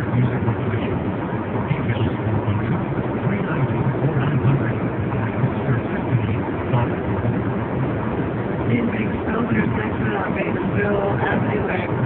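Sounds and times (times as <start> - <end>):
car interior engine and road noise: 0.0 - 12.0.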